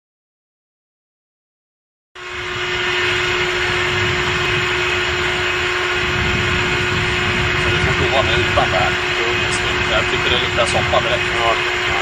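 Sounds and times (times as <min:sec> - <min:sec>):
aero engine running: 0:02.2 - 0:12.0.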